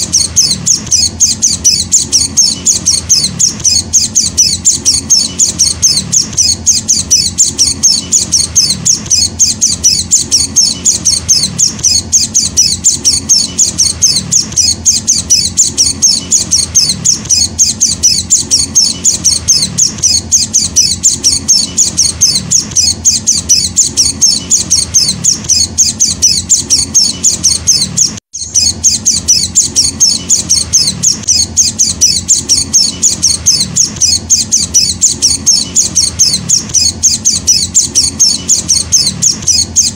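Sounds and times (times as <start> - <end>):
bird chick chirping: 0.0 - 39.9.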